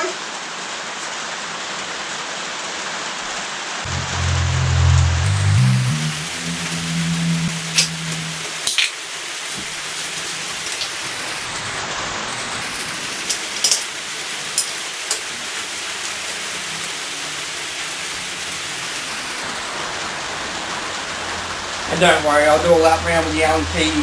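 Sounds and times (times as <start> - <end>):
rain on a shed roof: 0.0 - 24.0.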